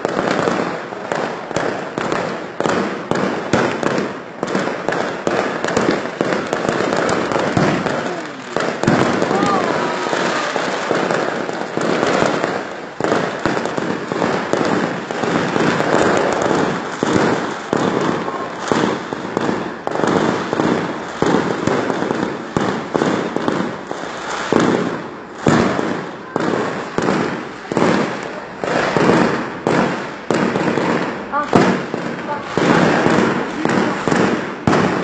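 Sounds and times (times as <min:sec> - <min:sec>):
fireworks bursting: 0:00.0 - 0:35.0
fireworks crackling: 0:00.0 - 0:35.0.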